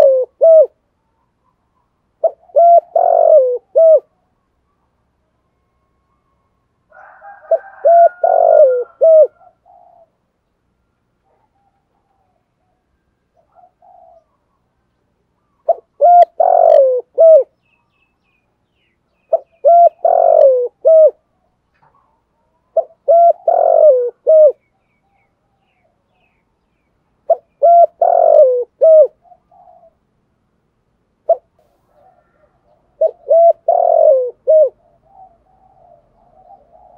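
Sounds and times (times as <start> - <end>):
dove cooing: 0.0 - 4.3, 5.6 - 10.3, 11.2 - 17.6, 19.2 - 26.5, 27.2 - 30.1, 31.2 - 36.9.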